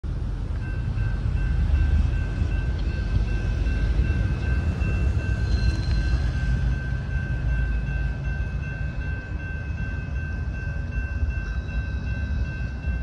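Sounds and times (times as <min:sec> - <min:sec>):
freight train rumble: 0:00.0 - 0:13.0
high-pitched train tones: 0:00.1 - 0:13.0.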